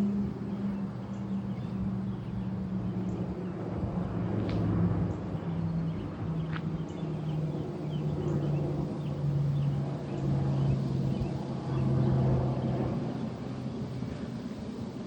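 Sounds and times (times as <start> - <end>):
aircraft engine drone: 0.0 - 15.0
small birds chirping: 0.2 - 14.9.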